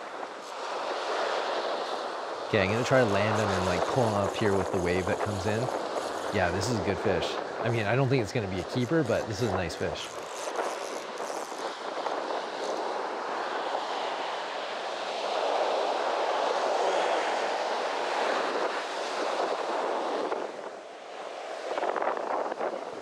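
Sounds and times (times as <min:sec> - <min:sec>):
ocean surf on beach: 0:00.0 - 0:23.0.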